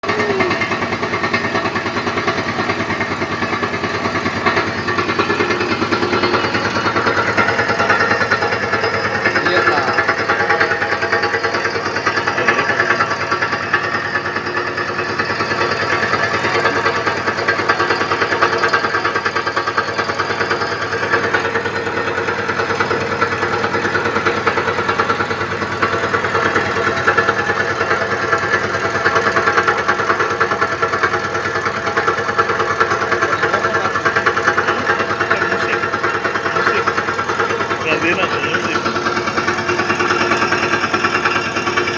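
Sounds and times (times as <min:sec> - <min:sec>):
milling machine cutting metal: 0:00.0 - 0:41.9.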